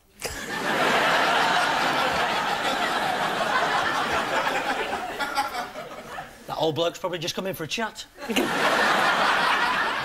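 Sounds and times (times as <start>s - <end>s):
audience laughing: 0.2s - 6.5s, 8.2s - 10.0s.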